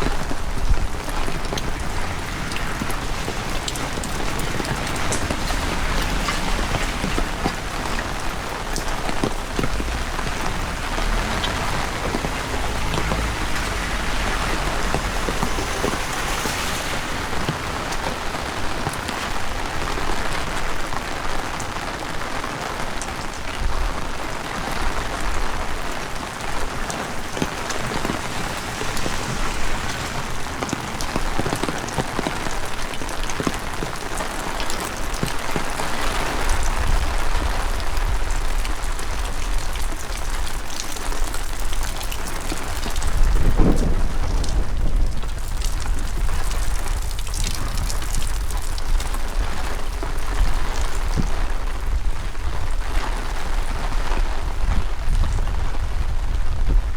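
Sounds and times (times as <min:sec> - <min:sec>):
heavy rain falling: 0:00.0 - 0:56.9
wind rumble on microphone: 0:00.0 - 0:56.9.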